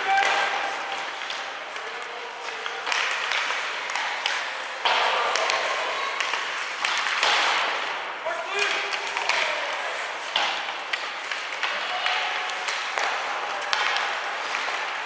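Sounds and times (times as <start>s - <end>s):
crowd calling and shouting: 0.0s - 15.0s
hockey sticks and puck clacking: 0.0s - 15.0s.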